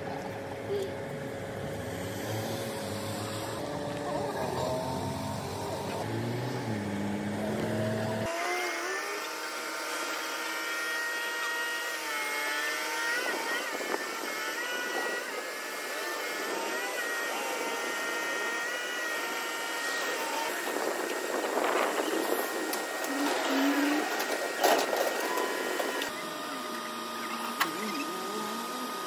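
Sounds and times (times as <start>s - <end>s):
hydraulic ladder lift whining: 2.2s - 29.0s.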